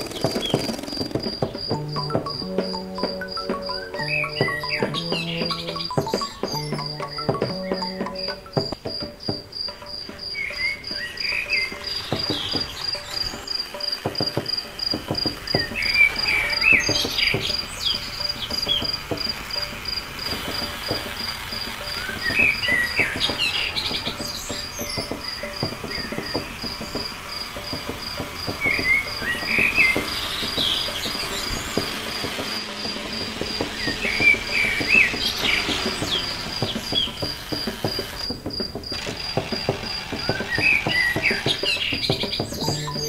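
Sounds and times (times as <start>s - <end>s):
birds chirping: 0.0s - 43.0s
crickets trilling: 0.0s - 43.0s.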